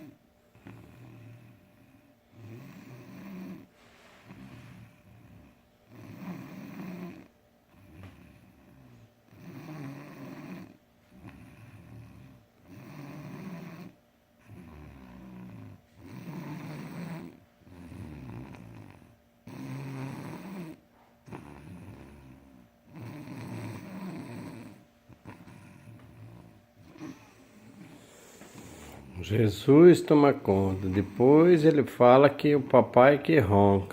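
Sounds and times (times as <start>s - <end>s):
boy snoring: 0.0s - 29.4s, 30.1s - 31.7s.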